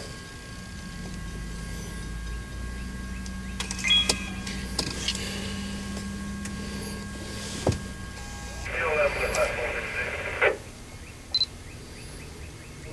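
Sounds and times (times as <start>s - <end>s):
car hum from inside cabin: 0.0s - 11.8s.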